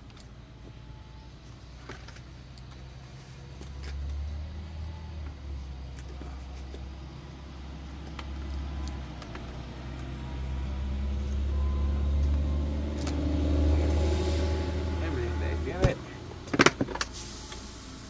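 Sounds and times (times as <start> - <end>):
low vehicle engine rumble: 0.0 - 18.0.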